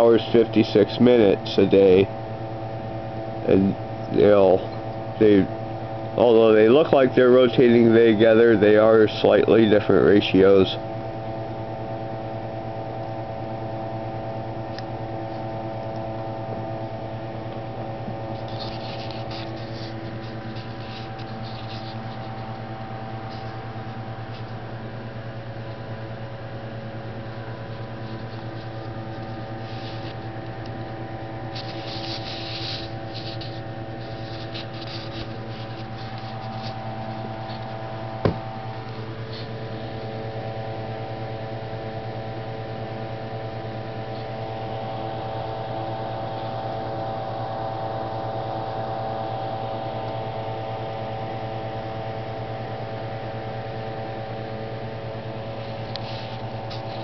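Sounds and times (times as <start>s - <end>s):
machine hum with held tones: 0.0s - 57.0s.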